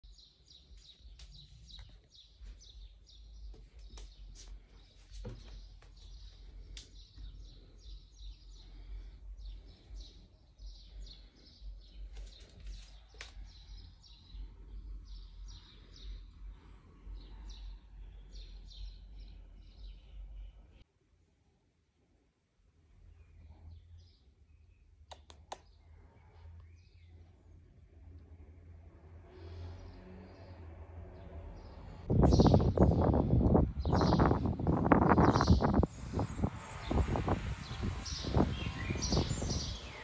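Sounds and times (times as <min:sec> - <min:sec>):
small birds chirping: 0:00.0 - 0:20.8, 0:23.0 - 0:27.8, 0:31.2 - 0:40.0.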